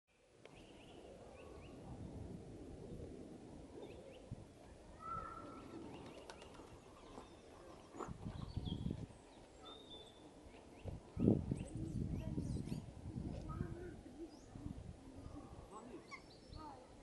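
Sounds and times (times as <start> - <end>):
songbirds chirping: 0.1 - 2.0, 2.8 - 17.0.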